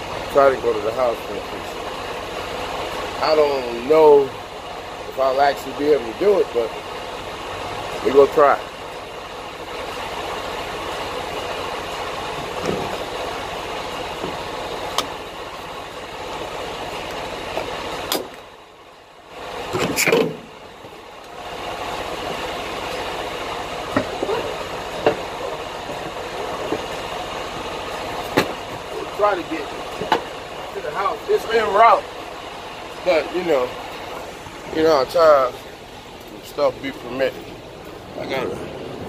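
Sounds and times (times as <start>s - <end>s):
truck road and engine noise: 0.0s - 39.0s.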